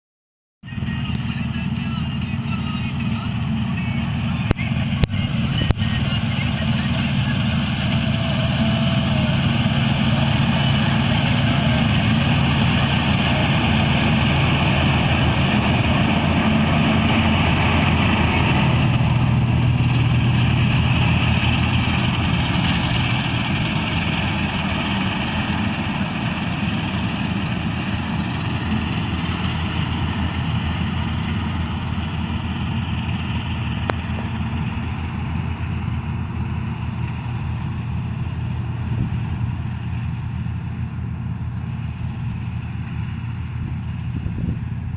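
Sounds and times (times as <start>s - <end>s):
combine harvester diesel engine: 0.6s - 44.9s.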